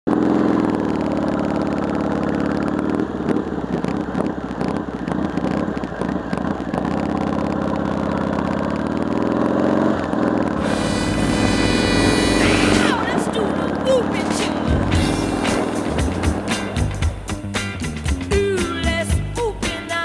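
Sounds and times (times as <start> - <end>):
motorcycle engine running: 0.1 - 19.8.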